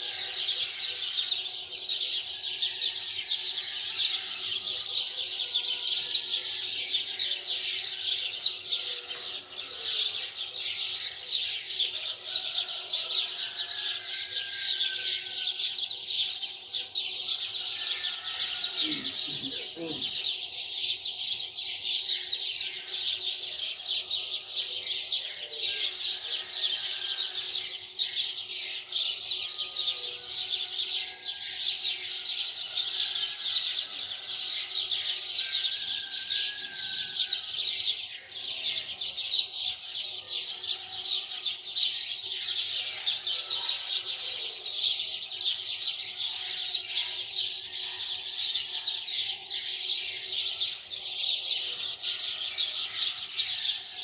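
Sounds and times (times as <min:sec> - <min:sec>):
small birds chirping: 0:03.6 - 0:48.2.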